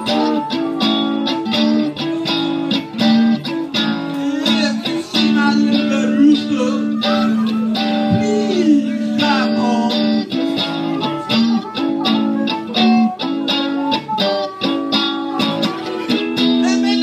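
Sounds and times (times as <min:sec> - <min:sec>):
electric guitar blues: 0:00.0 - 0:17.0
harmonica bent notes: 0:00.0 - 0:17.0.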